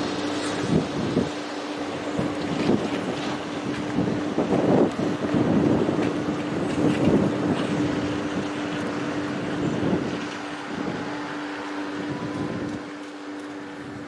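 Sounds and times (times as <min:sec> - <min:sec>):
vacuum tanker mechanical drone: 0:00.0 - 0:14.0
wind buffeting microphone: 0:00.0 - 0:14.0.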